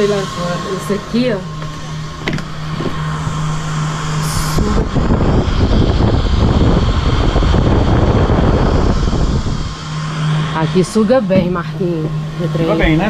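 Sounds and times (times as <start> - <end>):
air rushing from exhaust vent: 0.0 - 13.0
steady low hum: 0.0 - 13.0.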